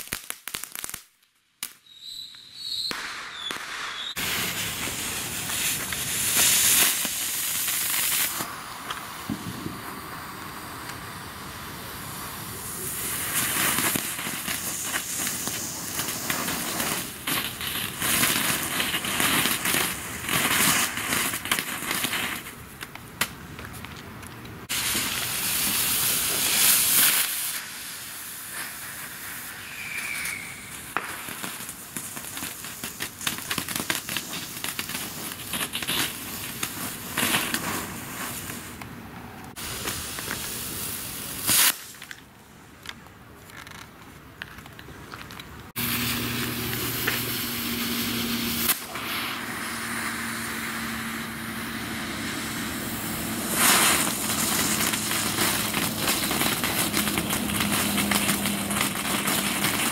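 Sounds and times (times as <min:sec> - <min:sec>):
sharp firework crack: 0:00.0 - 0:23.5, 0:24.6 - 0:38.9, 0:39.5 - 0:42.3, 0:45.7 - 0:59.9
fireworks hissing and crackling: 0:00.0 - 0:59.9.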